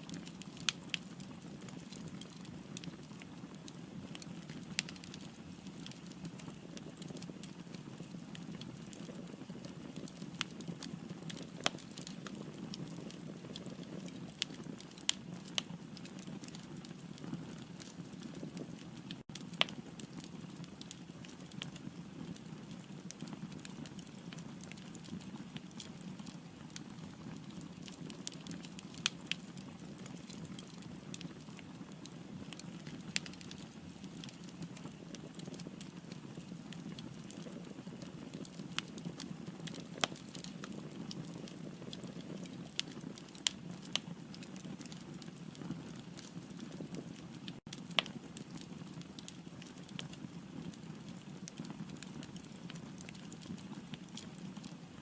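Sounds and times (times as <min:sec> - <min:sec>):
fire burning in fireplace: 0:00.0 - 0:55.0
fire crackles and pops: 0:00.0 - 0:55.0.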